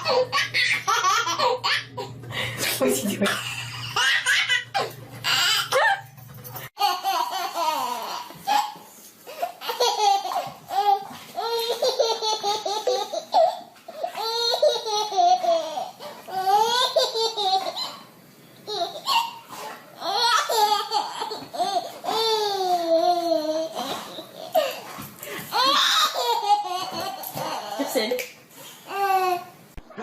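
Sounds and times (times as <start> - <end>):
baby laughing: 0.0 - 2.2, 3.3 - 6.1, 6.8 - 18.1, 18.7 - 28.0.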